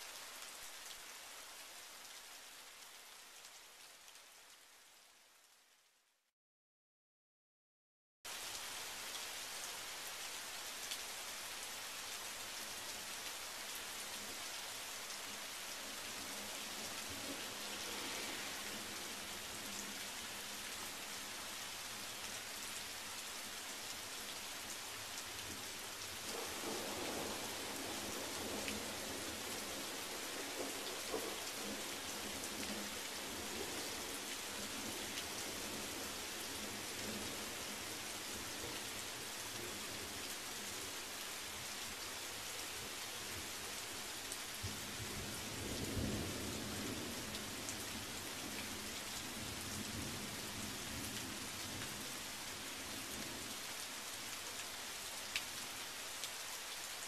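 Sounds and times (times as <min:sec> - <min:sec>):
rain pattering: 0:08.3 - 0:57.0.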